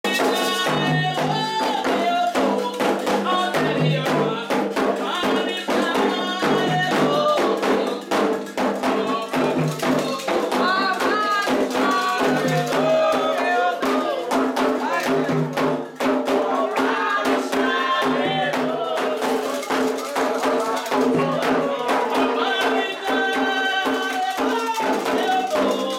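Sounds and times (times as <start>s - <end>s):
hand drums beating a dense rhythm: 0.0s - 25.9s
person leading the song: 0.0s - 25.9s
chant singing: 0.1s - 25.9s.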